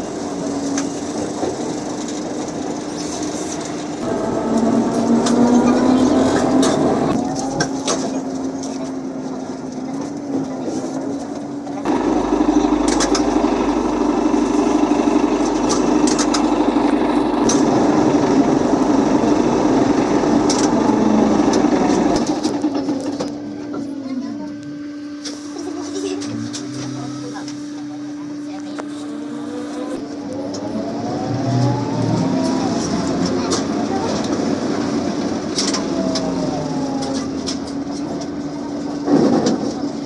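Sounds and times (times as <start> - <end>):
road and tyre noise: 0.0 - 40.0
trolleybus hum: 0.0 - 40.0.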